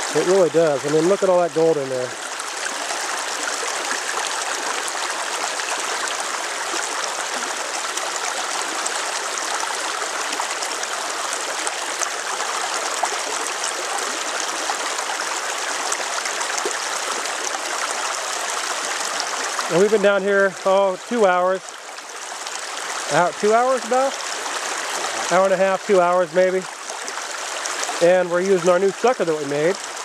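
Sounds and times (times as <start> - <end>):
water rushing through sluice: 0.0 - 30.0.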